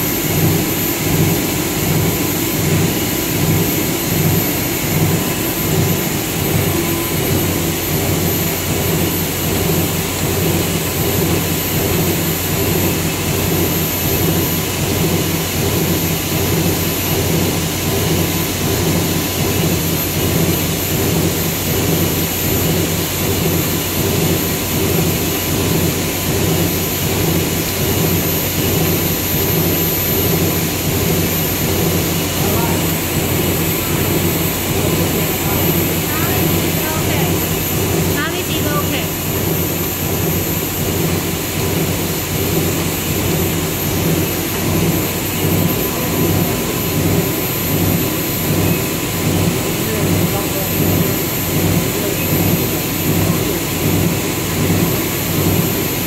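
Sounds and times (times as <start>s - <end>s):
blower and motor rushing: 0.0s - 56.0s
constant low hum: 0.0s - 56.0s.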